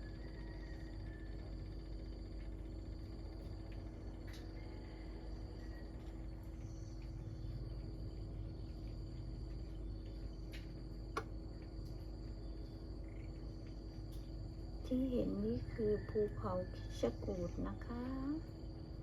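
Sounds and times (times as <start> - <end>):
faint low hum: 0.0 - 19.0
insects trilling: 0.0 - 19.0.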